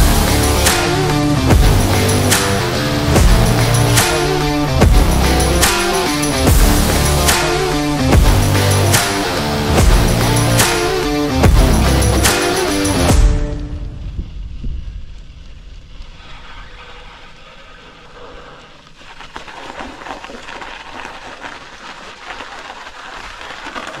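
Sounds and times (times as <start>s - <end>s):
bike tyres rolling on snow: 0.0s - 24.0s.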